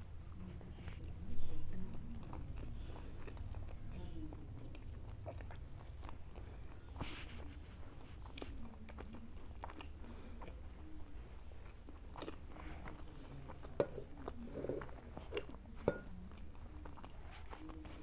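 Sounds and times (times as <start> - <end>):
chewing and wet mouth clicks: 0.6 - 18.0.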